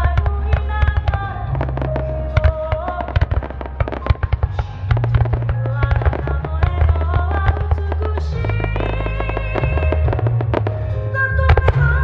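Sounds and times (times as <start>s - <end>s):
fireworks bursting: 0.0s - 12.0s
loud music with deep bass: 0.0s - 12.0s.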